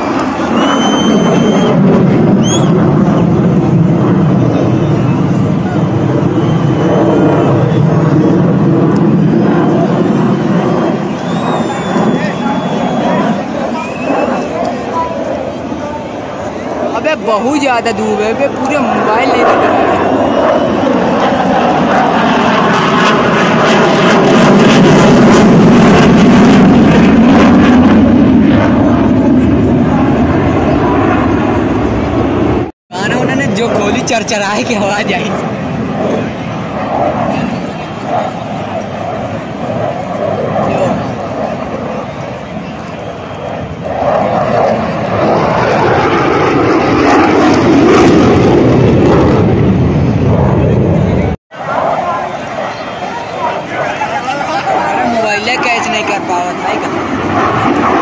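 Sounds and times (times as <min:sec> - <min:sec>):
jet aircraft engine roar: 0:00.0 - 0:58.0.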